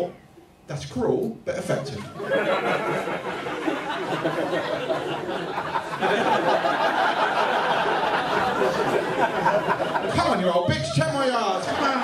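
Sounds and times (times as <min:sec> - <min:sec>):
audience laughing: 0:02.0 - 0:12.0.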